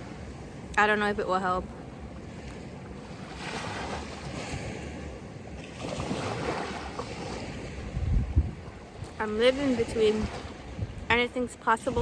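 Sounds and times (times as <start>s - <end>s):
sea waves washing onto beach: 0.0s - 12.0s
wind on microphone: 2.3s - 12.0s.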